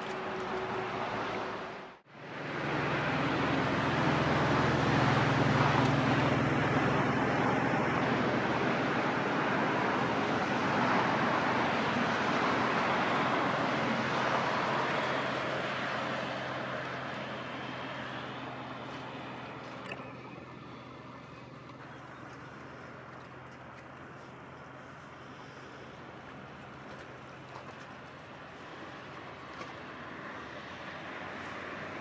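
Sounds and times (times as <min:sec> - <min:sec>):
engine rumble: 0:00.0 - 0:32.0.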